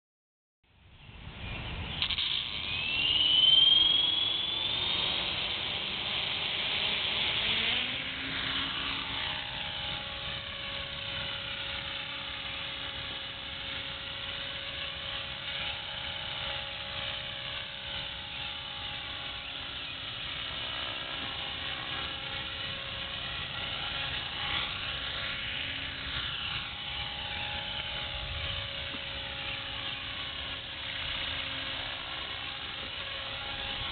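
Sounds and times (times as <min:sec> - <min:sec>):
rotor hum: 0:01.1 - 0:33.9
electric motor whine: 0:01.3 - 0:33.9.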